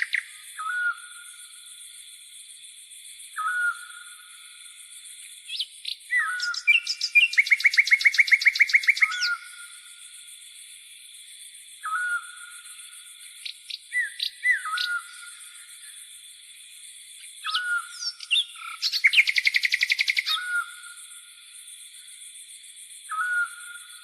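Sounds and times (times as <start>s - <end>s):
songbirds whistling and trilling: 0.0s - 2.0s, 3.2s - 10.8s, 11.7s - 22.1s, 23.0s - 24.0s.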